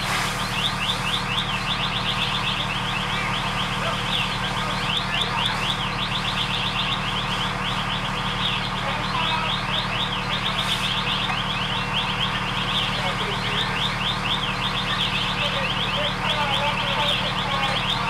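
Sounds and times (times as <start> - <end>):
fire engine idling: 0.0 - 18.0.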